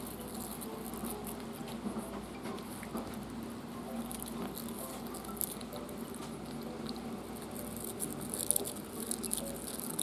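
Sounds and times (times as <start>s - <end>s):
puppy chewing on brush bristles: 0.0s - 10.0s.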